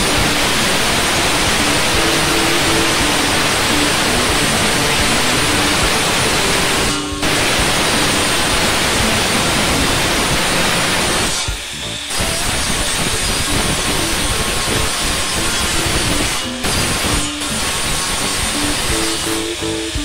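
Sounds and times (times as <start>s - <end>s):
angle grinder grinding steel: 0.0s - 20.0s
background music with simple melody: 0.0s - 20.0s.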